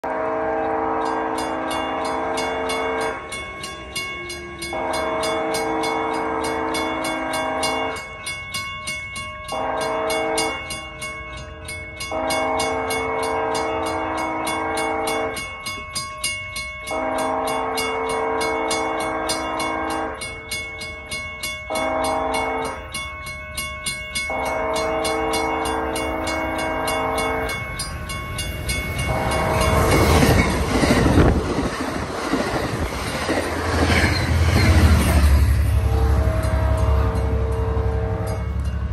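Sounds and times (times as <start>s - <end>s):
multi-chime train horn: 0.0s - 8.4s, 9.4s - 31.4s, 33.9s - 38.9s
train rumble: 0.0s - 38.9s.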